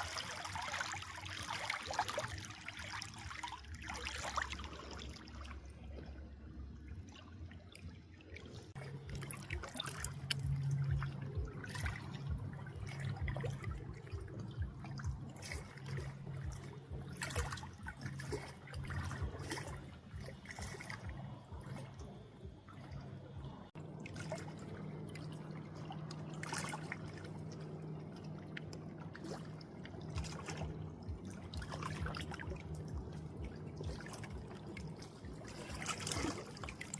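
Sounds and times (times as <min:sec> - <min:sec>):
low steady hum: 0:00.0 - 0:36.9
water trickling and dripping: 0:00.0 - 0:36.9.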